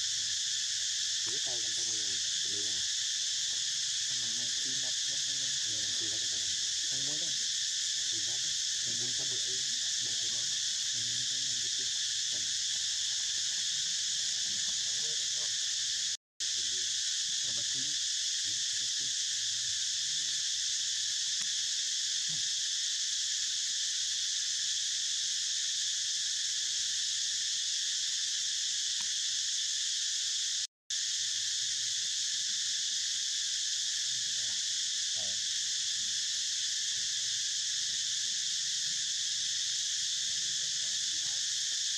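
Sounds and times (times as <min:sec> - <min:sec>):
insect chorus drone: 0:00.0 - 0:41.9.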